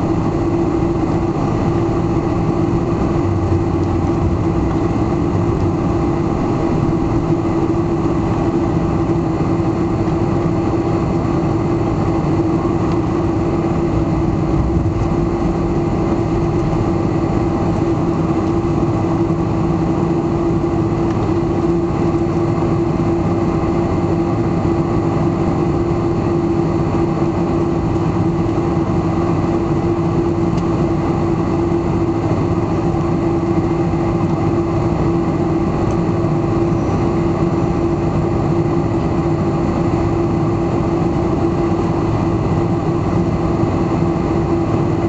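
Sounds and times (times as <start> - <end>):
jet engines humming in cabin: 0.0 - 45.0.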